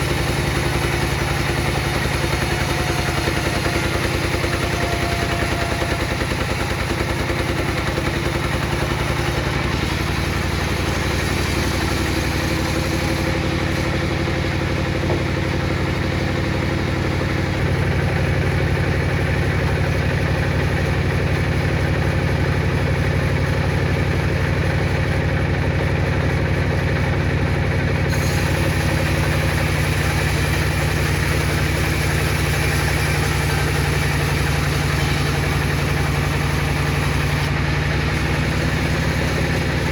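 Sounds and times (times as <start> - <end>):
heavy machine droning: 0.0 - 21.0, 27.9 - 39.9.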